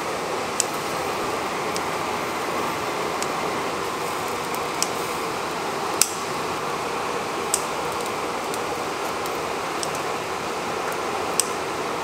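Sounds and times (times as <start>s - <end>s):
ventilation fan: 0.0s - 12.0s.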